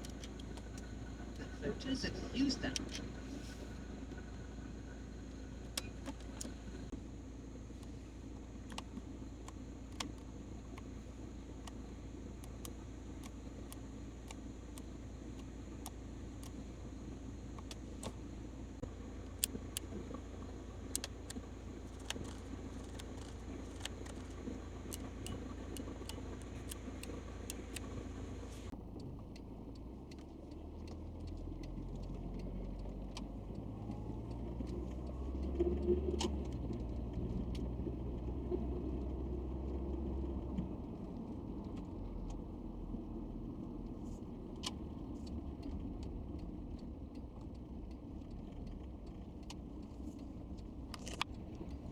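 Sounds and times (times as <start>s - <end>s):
car cabin hum: 0.0s - 51.9s
car engine accelerating: 0.0s - 51.9s.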